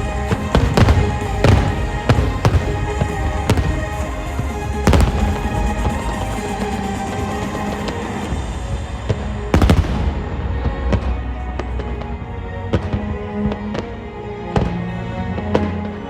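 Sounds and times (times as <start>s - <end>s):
fireworks bangs: 0.0s - 13.9s
music soundtrack: 0.0s - 16.0s.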